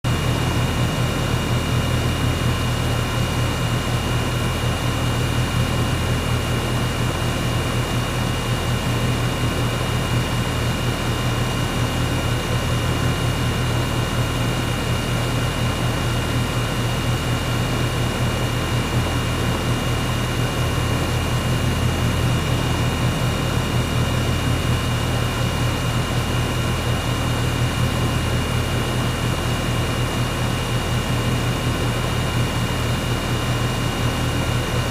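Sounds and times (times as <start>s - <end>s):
air conditioner running: 0.1s - 34.9s.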